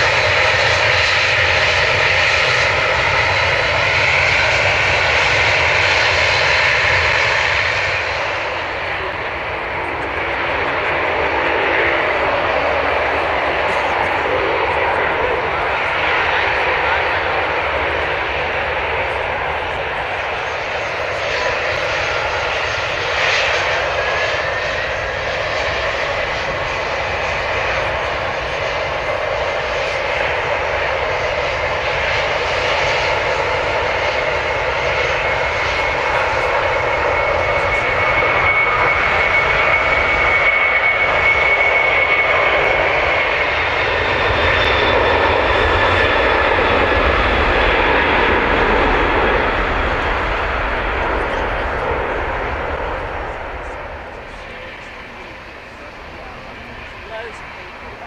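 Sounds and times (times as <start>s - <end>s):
high engine whine: 0.0s - 58.0s
jet engines running: 0.0s - 58.0s
jet takeoff rumble: 0.0s - 58.0s.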